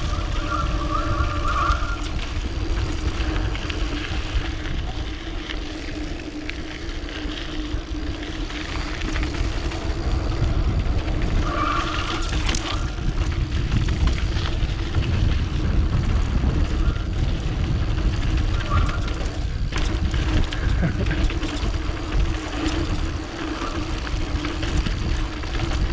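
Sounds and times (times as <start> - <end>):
steady hum: 0.0 - 25.9
tyres rumbling over dirt: 0.0 - 25.9
wind buffeting microphone: 0.0 - 25.9.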